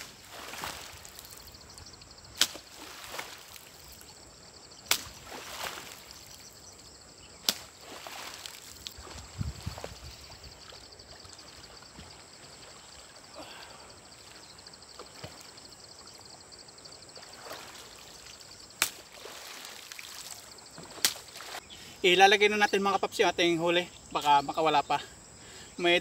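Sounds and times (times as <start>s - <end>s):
river water sloshing: 0.0s - 21.8s.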